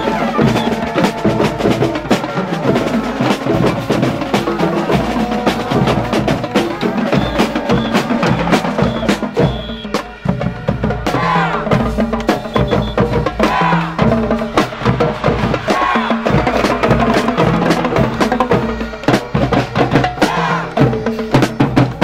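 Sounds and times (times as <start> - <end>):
bass drums: 0.0 - 22.0
snare drums: 0.0 - 22.0.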